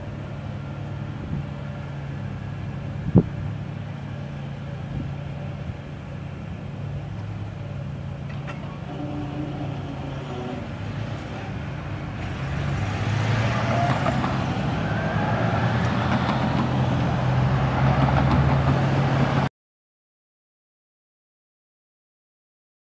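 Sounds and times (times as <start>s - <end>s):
cars driving over railroad tracks: 0.0s - 19.5s
low engine hum: 0.0s - 19.5s.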